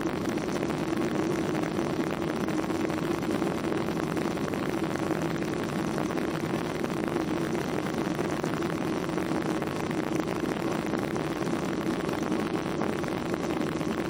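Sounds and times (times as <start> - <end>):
jet engine drone: 0.0 - 14.0.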